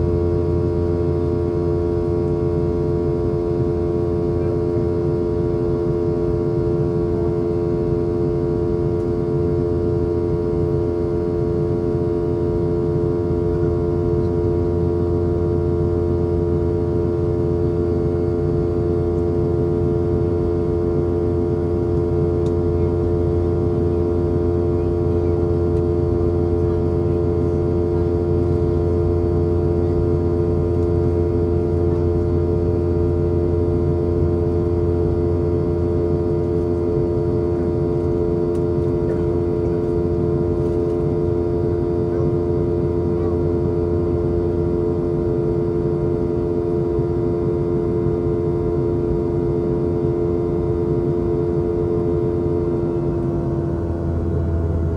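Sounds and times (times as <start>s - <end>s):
aircraft cabin engine roar: 0.0s - 54.9s
held multi-tone hum: 0.0s - 54.9s.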